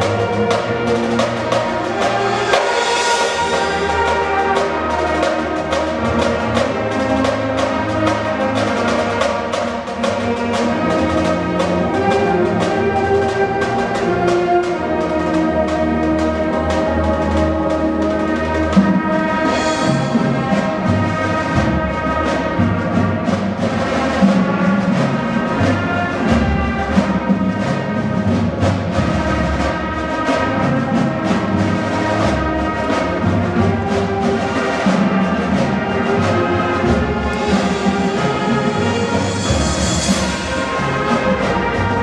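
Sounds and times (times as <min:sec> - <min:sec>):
brass chords and melody: 0:00.0 - 0:42.0
drum strikes: 0:00.0 - 0:42.0.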